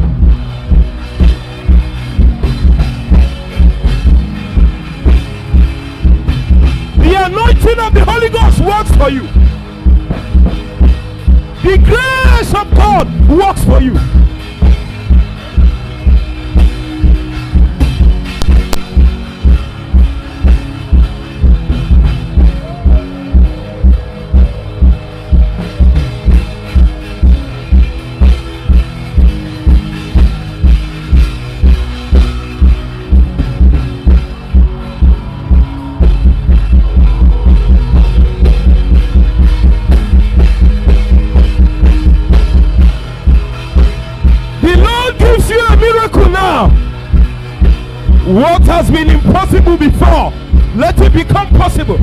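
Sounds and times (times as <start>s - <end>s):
music with heavy bass beat: 0.0s - 52.0s.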